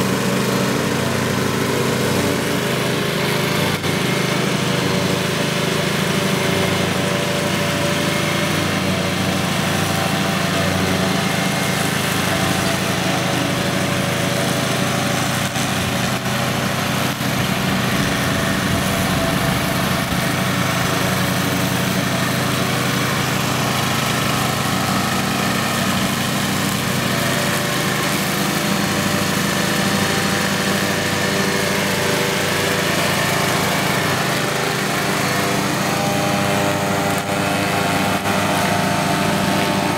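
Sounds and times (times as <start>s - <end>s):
ride-on lawn mower running: 0.0s - 39.9s.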